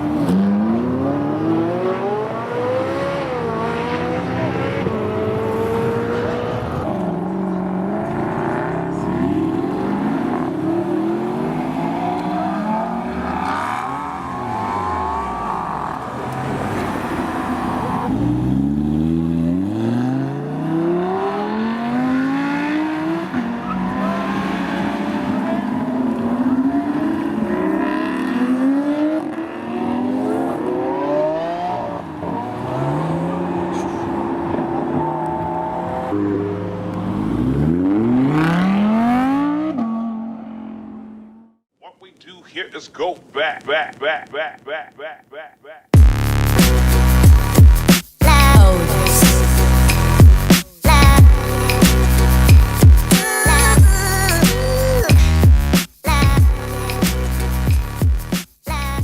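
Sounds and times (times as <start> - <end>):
supercar engines revving: 0.0 - 41.4, 46.0 - 55.1.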